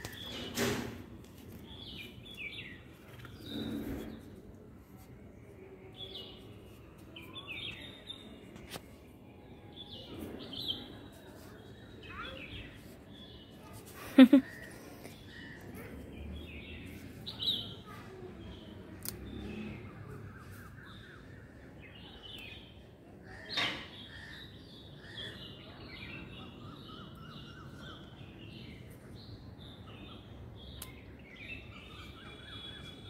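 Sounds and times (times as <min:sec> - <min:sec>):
small birds chirping: 0:01.3 - 0:33.0.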